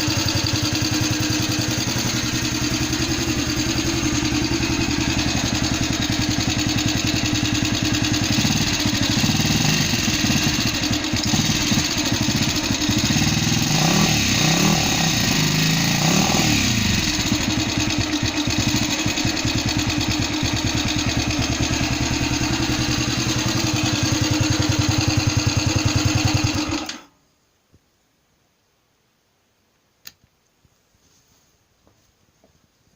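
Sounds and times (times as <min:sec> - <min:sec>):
two-stroke engine running and revving: 0:00.0 - 0:27.0.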